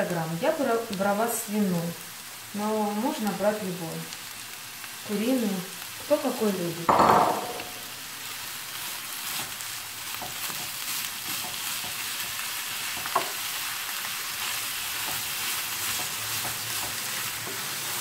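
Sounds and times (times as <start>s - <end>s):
meat sizzling in a frying pan: 0.0s - 18.0s.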